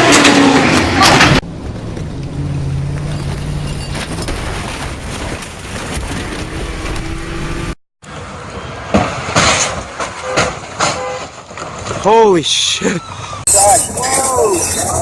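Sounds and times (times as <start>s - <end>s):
car road noise: 0.0s - 12.1s, 13.0s - 15.0s.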